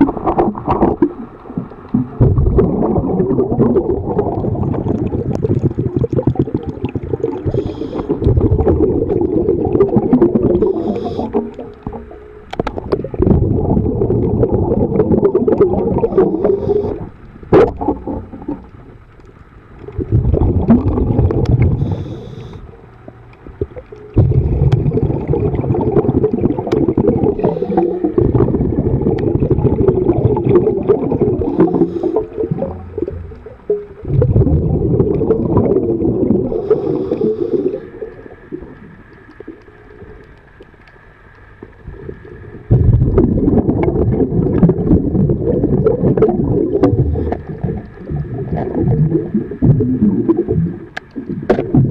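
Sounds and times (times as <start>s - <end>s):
underwater bubbles rumbling: 0.0s - 51.9s.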